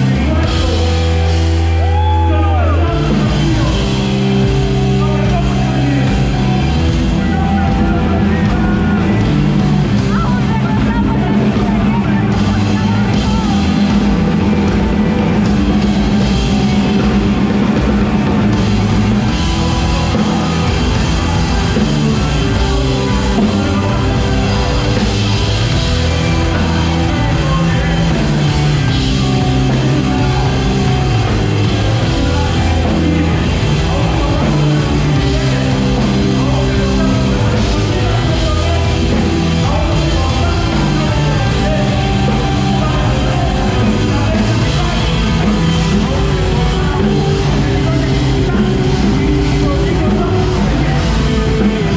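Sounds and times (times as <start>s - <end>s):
loud rock music: 0.0s - 51.9s
person singing: 0.0s - 51.9s.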